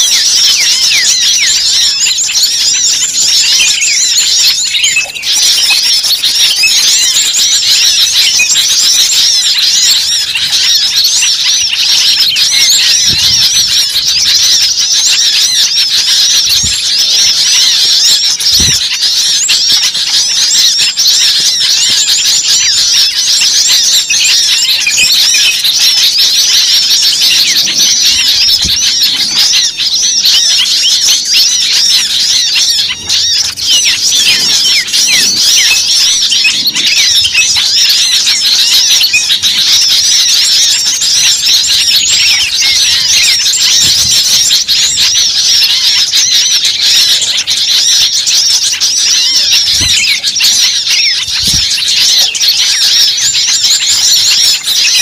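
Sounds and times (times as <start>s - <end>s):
small birds chirping and chattering: 0.0s - 55.0s.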